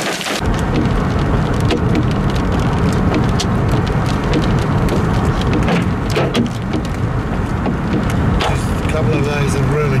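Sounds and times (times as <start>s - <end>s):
car engine and tyres rumbling: 0.0s - 10.0s
hailstones hitting a car: 0.0s - 10.0s.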